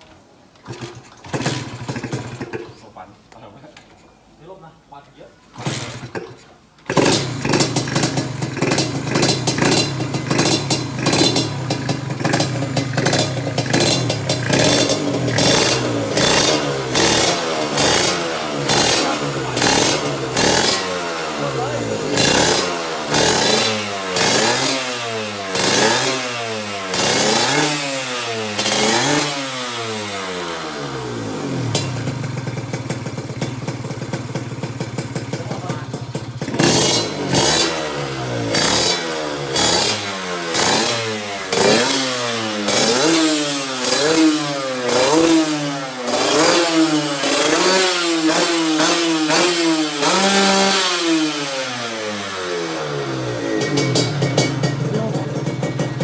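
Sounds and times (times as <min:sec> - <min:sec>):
motorcycle engine revving: 0:00.6 - 0:02.8, 0:05.5 - 0:56.0.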